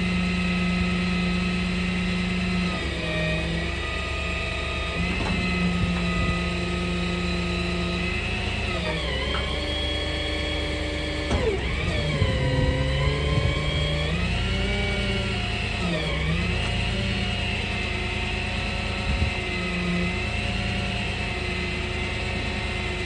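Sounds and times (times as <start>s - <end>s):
tow truck engine running: 0.0s - 23.0s.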